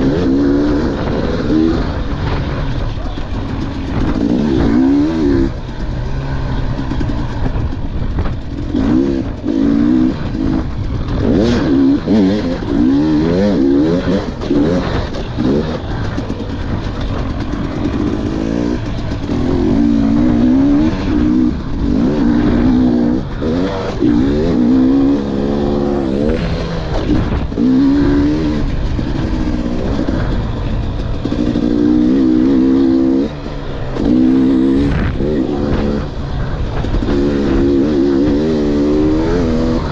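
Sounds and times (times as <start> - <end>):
dirt bike engine revving: 0.0 - 39.9
steady rushing noise: 0.0 - 39.9.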